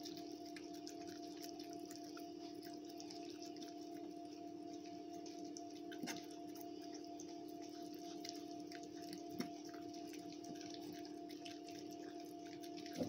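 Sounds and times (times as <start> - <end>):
puppies licking and chewing: 0.0 - 13.0
steady background hum: 0.0 - 13.0.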